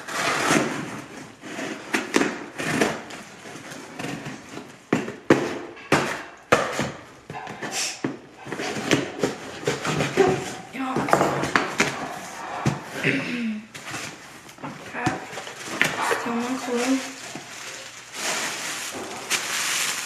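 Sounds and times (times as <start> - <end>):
cardboard and tape scraping: 0.0 - 13.1, 13.8 - 20.0.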